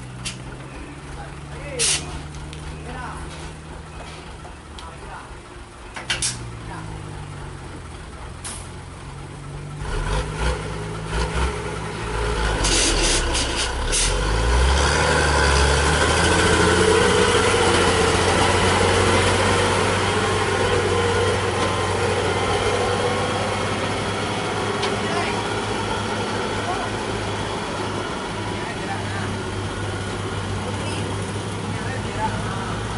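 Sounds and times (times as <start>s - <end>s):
truck engine under load: 0.0s - 32.9s.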